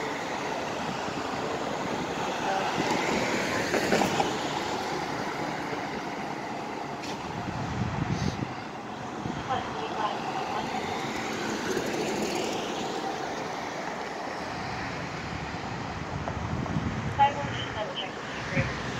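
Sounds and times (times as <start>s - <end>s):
city street traffic: 0.0s - 18.9s.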